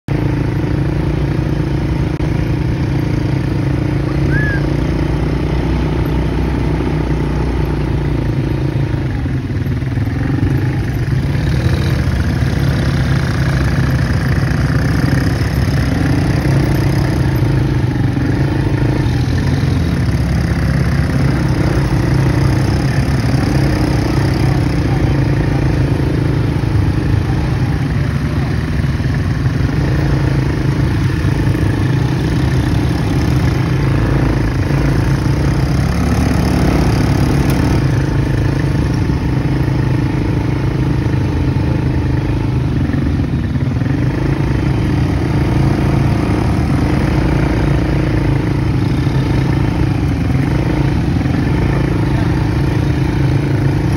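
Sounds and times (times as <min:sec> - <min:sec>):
atv engine running: 0:00.1 - 0:53.9.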